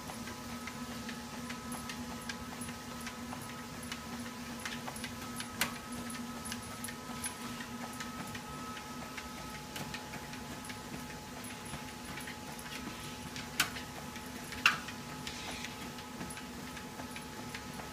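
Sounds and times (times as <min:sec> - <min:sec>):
treadmill motor hum and whine: 0:00.0 - 0:17.9
light regular ticking: 0:00.1 - 0:17.9.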